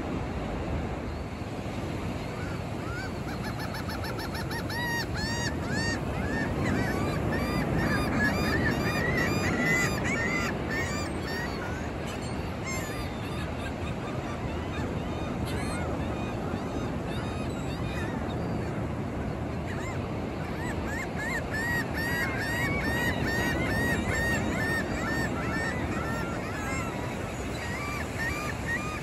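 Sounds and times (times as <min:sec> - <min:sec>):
gulls calling: 0:01.1 - 0:29.0.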